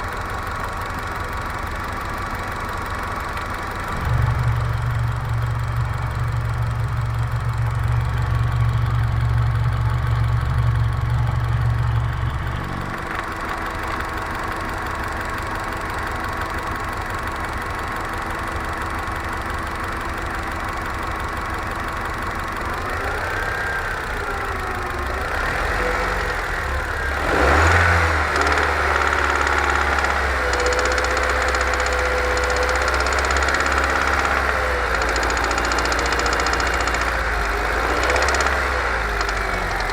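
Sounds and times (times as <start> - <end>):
car engine idling and revving: 0.0 - 39.9
engine knocking: 0.0 - 39.9.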